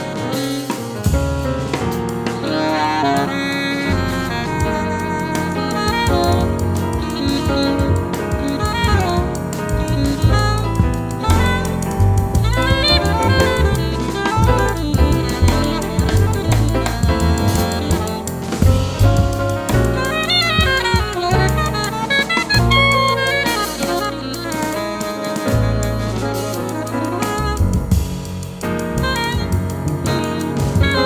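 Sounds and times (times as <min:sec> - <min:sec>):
alto saxophone melody: 0:00.0 - 0:31.0
drum kit: 0:00.0 - 0:31.0
piano: 0:00.0 - 0:31.0
walking bass line: 0:00.0 - 0:31.0.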